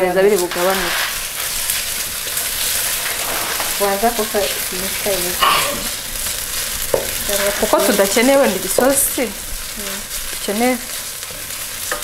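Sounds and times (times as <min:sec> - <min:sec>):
food sizzling in frying pan: 0:00.0 - 0:12.0.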